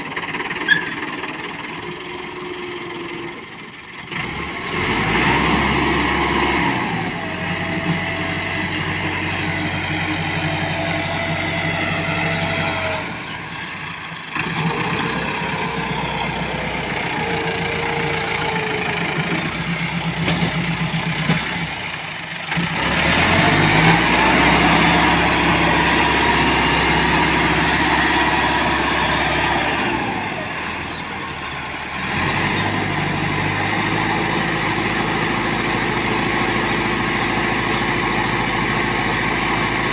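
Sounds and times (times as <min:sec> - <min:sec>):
tractor diesel engine running hard: 0:00.0 - 0:39.9.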